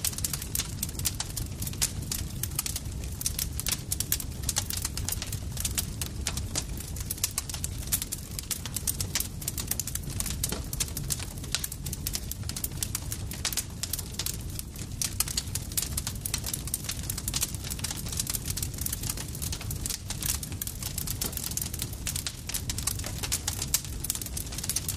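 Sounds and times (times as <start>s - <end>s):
low rumble of flames: 0.0s - 24.9s
wood crackling and popping: 0.0s - 24.9s.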